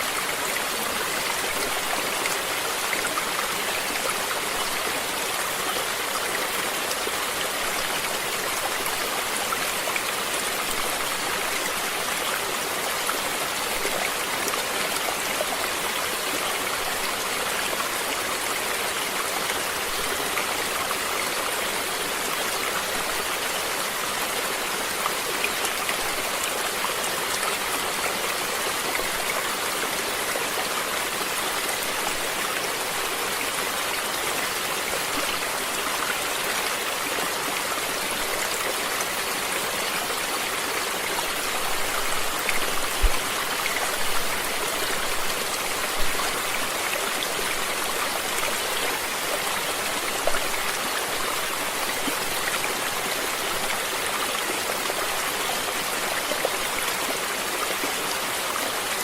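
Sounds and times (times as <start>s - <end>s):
running water flowing: 0.0s - 59.0s.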